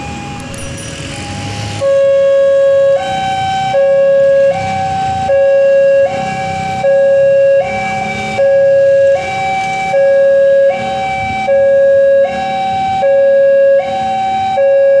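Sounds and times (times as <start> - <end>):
low traffic rumble: 0.0 - 15.0
two-tone electronic siren: 0.0 - 15.0.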